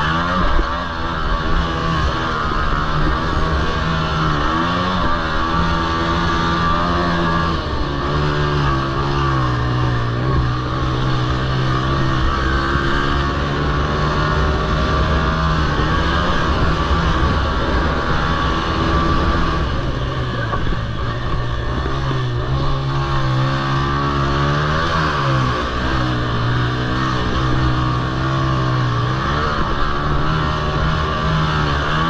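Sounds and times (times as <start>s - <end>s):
small quad engines revving: 0.0s - 32.0s.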